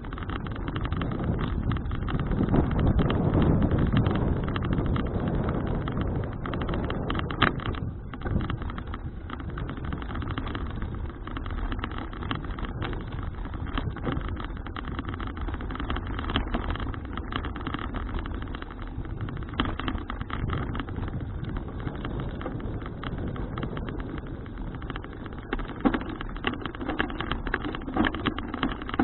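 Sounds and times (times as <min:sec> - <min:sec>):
bicycle tyre rumble on road: 0:00.0 - 0:29.0
wind buffeting microphone: 0:00.0 - 0:29.0.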